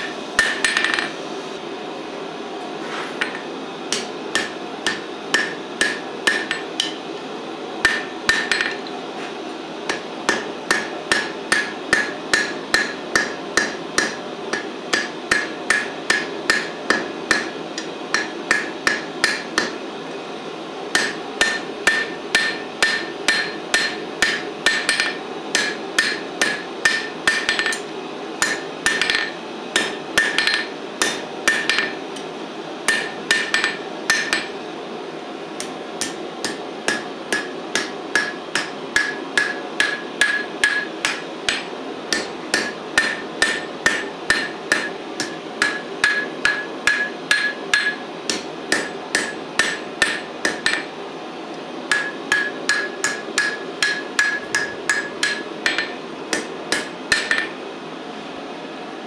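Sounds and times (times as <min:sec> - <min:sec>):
hammer striking hot steel on anvil: 0:00.0 - 0:01.2, 0:03.2 - 0:07.1, 0:07.8 - 0:08.9, 0:09.9 - 0:19.8, 0:20.9 - 0:32.3, 0:32.9 - 0:34.6, 0:35.6 - 0:51.0, 0:51.9 - 0:57.6.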